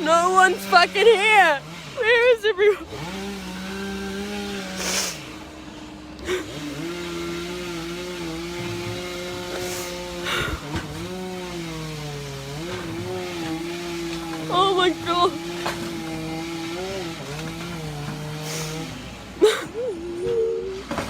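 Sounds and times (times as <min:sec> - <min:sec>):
chainsaw cutting tree: 0:00.0 - 0:21.0.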